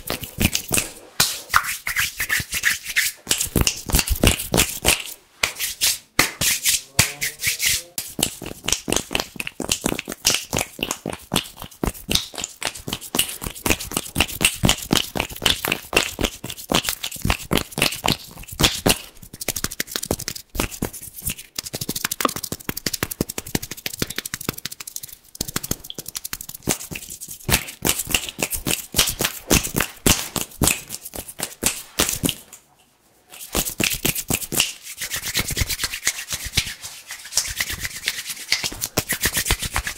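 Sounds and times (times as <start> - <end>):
hands rubbing and tapping: 0.0 - 32.6, 33.3 - 39.9.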